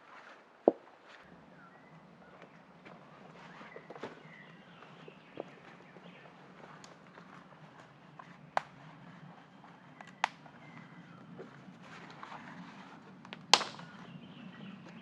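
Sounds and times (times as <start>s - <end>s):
faint steady background noise: 0.0s - 15.0s.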